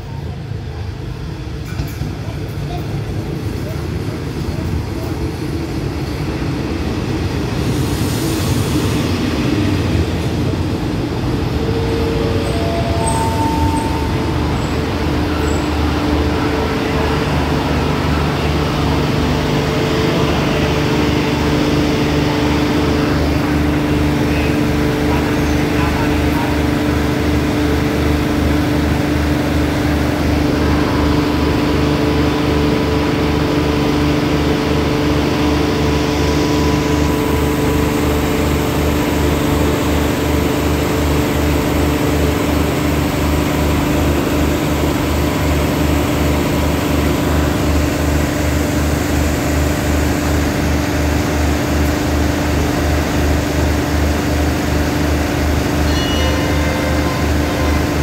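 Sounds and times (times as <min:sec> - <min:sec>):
train engines idling: 0:00.0 - 0:58.0.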